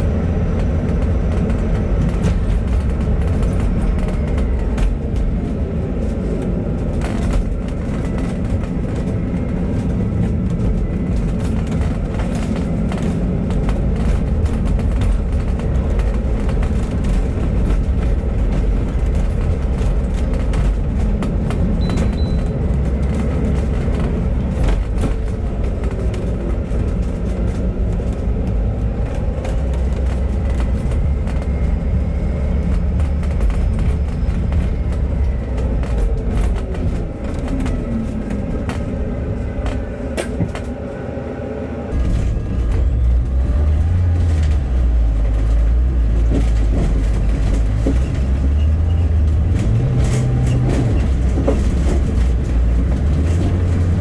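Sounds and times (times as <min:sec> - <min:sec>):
knocks and rattles: 0:00.0 - 0:40.8, 0:41.9 - 0:54.0
bus engine drone: 0:00.0 - 0:54.0
road rumble: 0:00.0 - 0:54.0.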